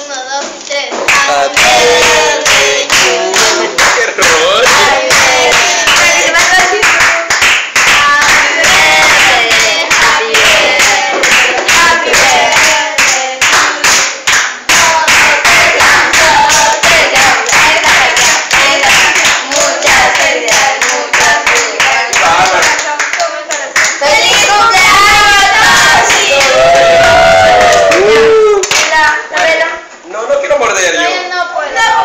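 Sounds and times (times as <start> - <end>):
rhythmic group clapping: 0.4 - 29.8
group singing: 0.9 - 28.1, 28.8 - 29.9.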